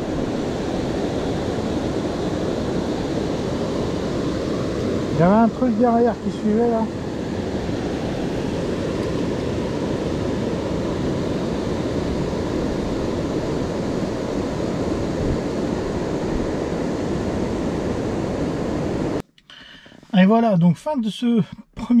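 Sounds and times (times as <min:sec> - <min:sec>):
steady rushing noise outdoors: 0:00.0 - 0:19.3.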